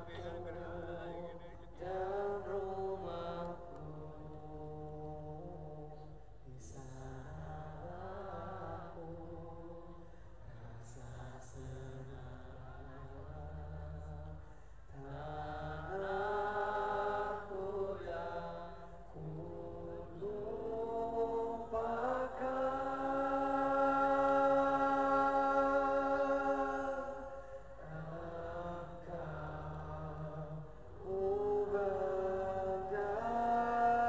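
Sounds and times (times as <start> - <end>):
voices chanting a slow melody: 0.0 - 34.0.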